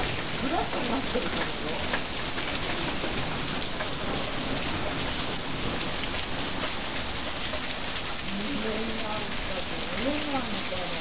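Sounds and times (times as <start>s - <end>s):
heavy rain splashing on pavement: 0.0s - 11.0s.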